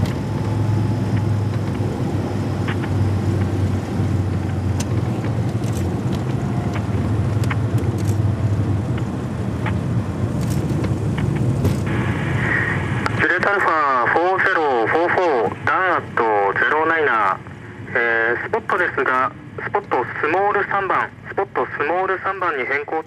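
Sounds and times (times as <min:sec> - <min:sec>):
plane engine and propeller drone: 0:00.0 - 0:23.0.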